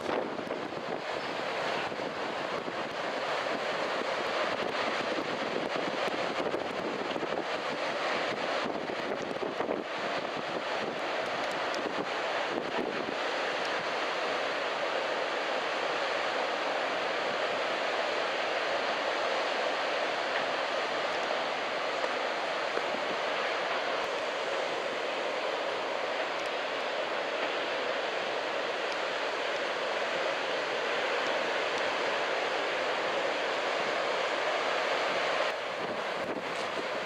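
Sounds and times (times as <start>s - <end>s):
strong wind: 0.0s - 37.0s.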